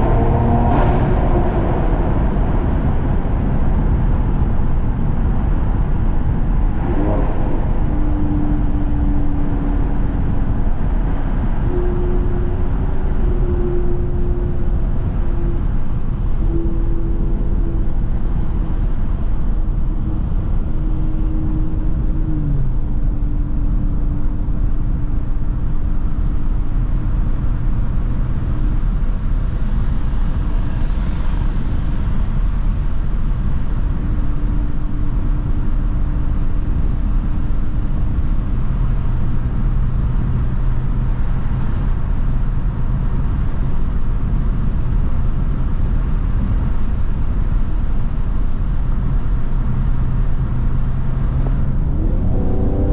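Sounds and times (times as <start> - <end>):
car engine driving: 0.0 - 52.9
road noise: 0.0 - 52.9.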